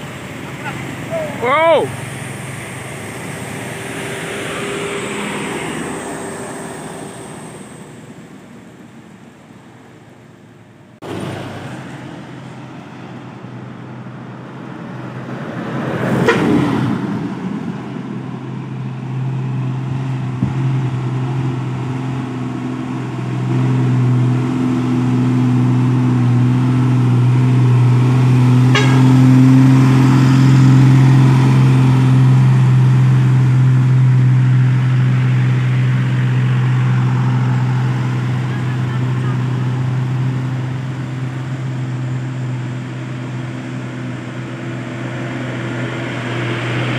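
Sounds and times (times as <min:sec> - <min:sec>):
truck engine running steady: 0:00.0 - 0:15.6, 0:16.3 - 0:46.9
heavy trucks passing: 0:00.0 - 0:46.9.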